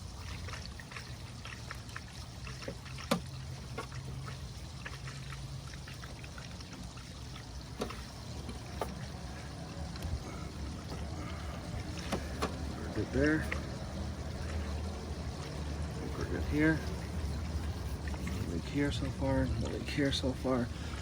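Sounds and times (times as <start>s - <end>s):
water trickling through pipes: 0.0s - 21.0s.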